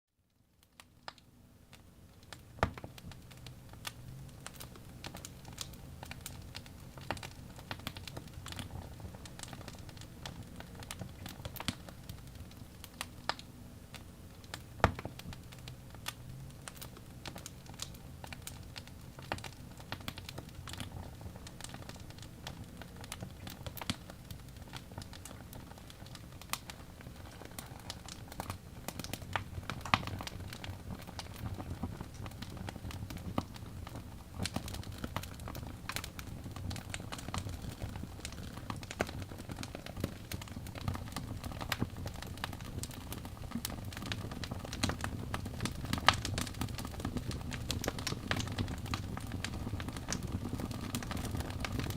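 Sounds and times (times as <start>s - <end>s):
logs crackling and popping: 0.6s - 51.9s
low rumble of flames: 2.1s - 51.9s.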